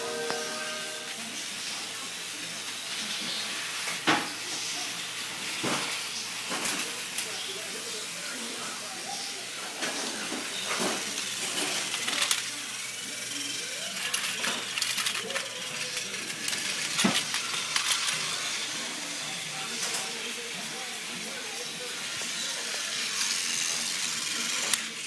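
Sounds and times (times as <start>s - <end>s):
toy train clicking on track: 4.7s - 25.0s.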